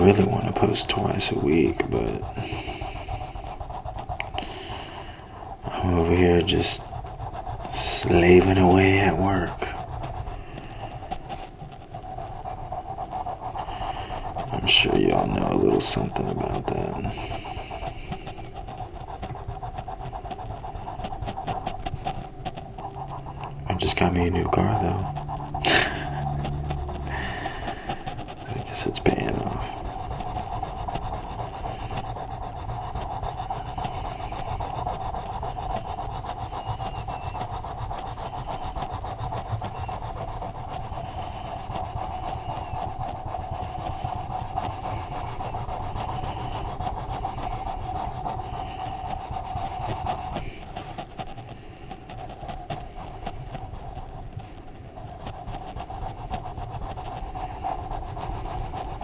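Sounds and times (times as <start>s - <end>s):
colouring strokes on paper: 0.0s - 59.0s
steady hum: 0.0s - 59.0s.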